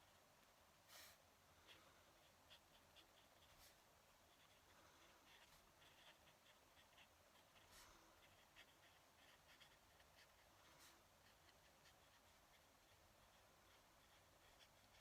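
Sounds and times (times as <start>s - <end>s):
pen nib scratching on paper: 0.9s - 15.0s.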